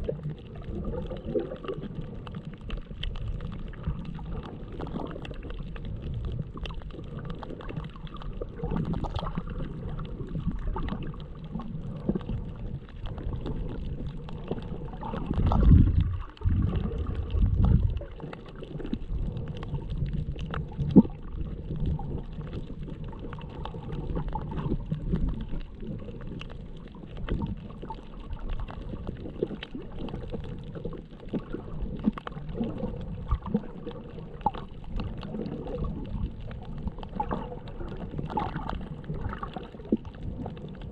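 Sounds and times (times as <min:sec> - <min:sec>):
clicks and crackles: 0:00.0 - 0:40.9
muffled underwater rumble: 0:00.0 - 0:40.9.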